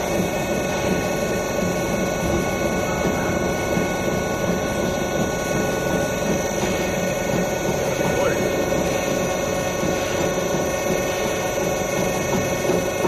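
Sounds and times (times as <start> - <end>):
machine hum with whining tones: 0.0 - 13.0.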